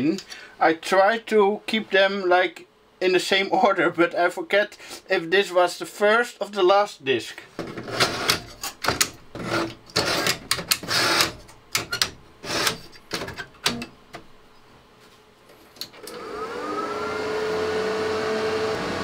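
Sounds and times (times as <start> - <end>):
cooling fans whirring: 0.0 - 19.0.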